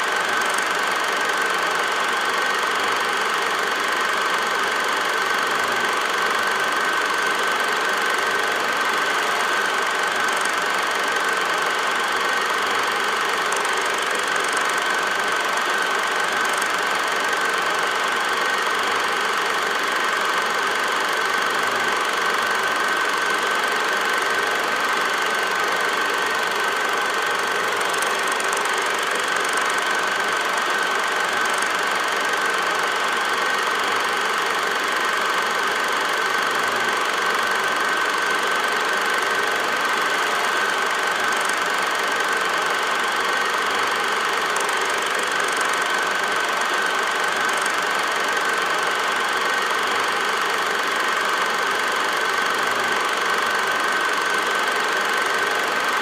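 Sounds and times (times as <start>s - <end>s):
film projector whirring and clattering: 0.0s - 56.0s.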